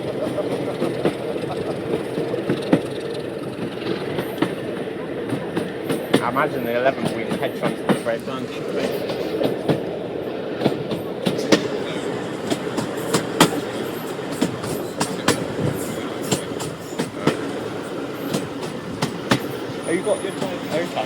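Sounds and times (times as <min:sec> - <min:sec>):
train running rumble: 0:00.0 - 0:21.0
wheels clicking on track: 0:00.0 - 0:21.0.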